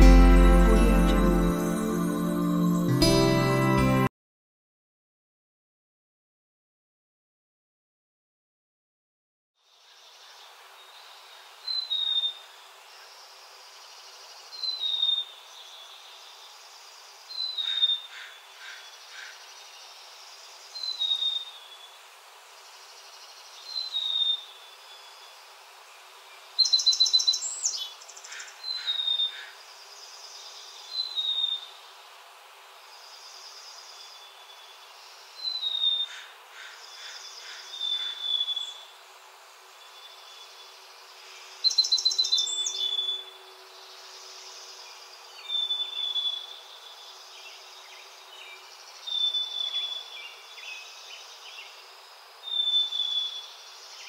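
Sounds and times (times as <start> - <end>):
faint field background hiss: 9.6 - 54.0.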